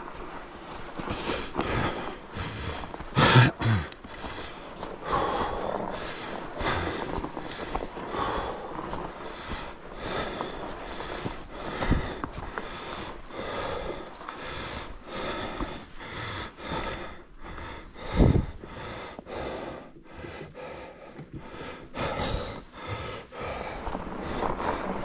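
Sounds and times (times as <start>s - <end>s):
bike riding on snow: 0.0s - 25.0s
person breathing: 0.0s - 25.0s.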